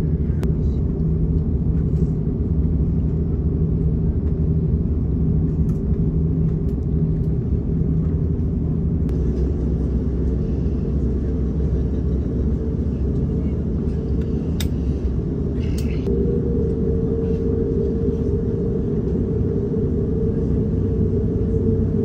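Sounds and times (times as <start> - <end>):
airplane taxiing low rumble: 0.0 - 22.0.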